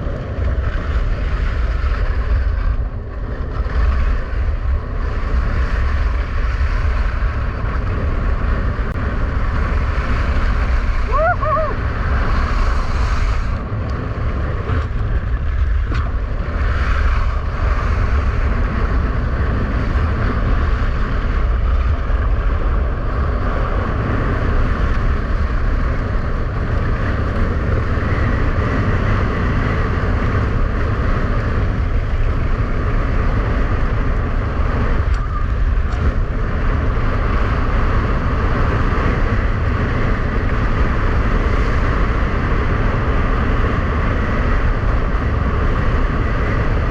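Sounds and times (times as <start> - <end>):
skis scraping on rough ice: 0.0 - 43.5
wind buffeting microphone: 0.0 - 46.9.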